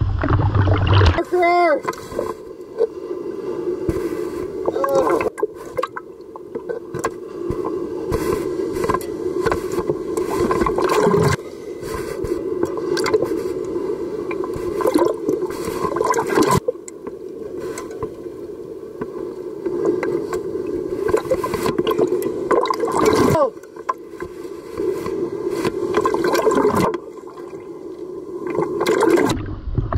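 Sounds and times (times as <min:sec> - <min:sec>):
seawater sloshing and gurgling: 0:00.0 - 0:02.9, 0:03.9 - 0:13.6, 0:14.3 - 0:18.2, 0:19.8 - 0:29.9
waves breaking: 0:00.0 - 0:29.4.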